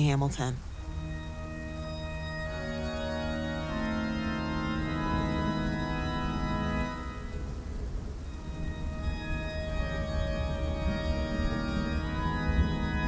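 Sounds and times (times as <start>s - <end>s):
background music of held chords: 0.0s - 13.0s.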